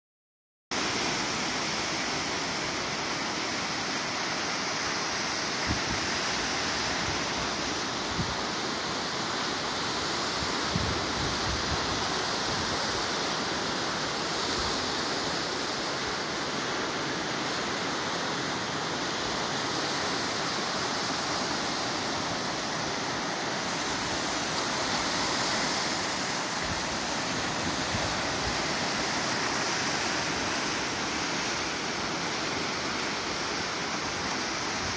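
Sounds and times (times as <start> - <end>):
small waves breaking on beach: 0.8 - 34.9.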